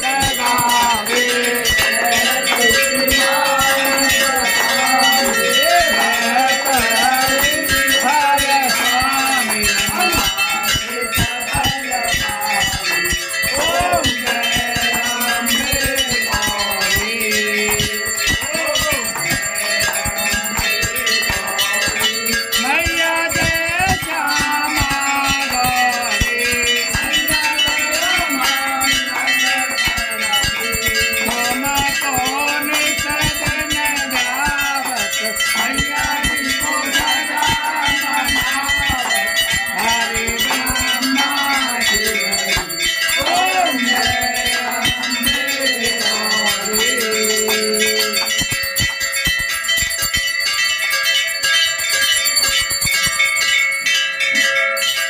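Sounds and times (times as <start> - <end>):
group singing: 0.0 - 50.2
people clapping: 0.0 - 51.2
temple bells ringing: 0.0 - 55.0.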